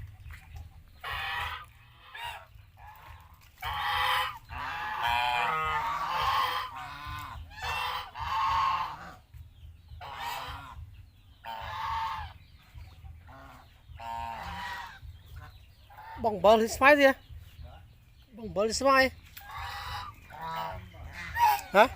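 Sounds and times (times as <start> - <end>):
geese honking: 0.9 - 9.4, 10.0 - 17.8, 18.5 - 21.9.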